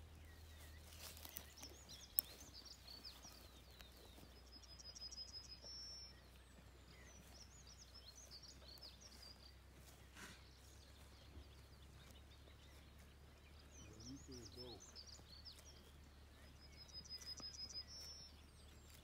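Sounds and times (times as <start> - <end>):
faint songbird chirps: 0.0 - 19.0.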